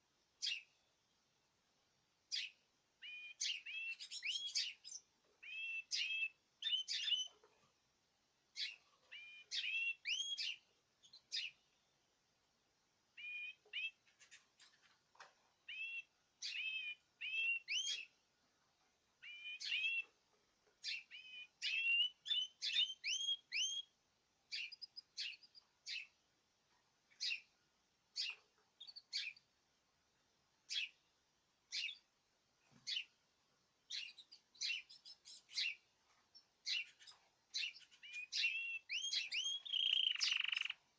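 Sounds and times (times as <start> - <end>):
caged birds chirping: 0.4 - 0.9, 2.3 - 7.8, 8.5 - 12.0, 13.1 - 29.7, 30.6 - 33.2, 33.8 - 40.9.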